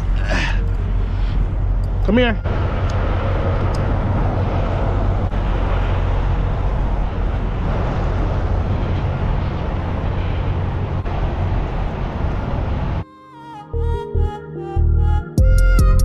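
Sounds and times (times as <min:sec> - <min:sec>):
heavy vehicle engine drone: 0:00.0 - 0:13.0
outdoor noise: 0:00.0 - 0:13.0.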